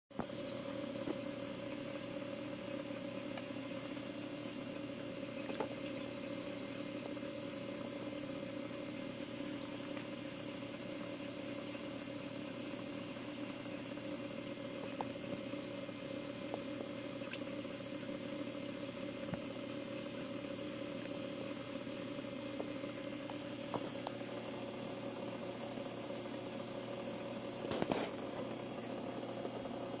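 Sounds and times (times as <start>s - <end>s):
mechanical hum: 0.1s - 30.0s.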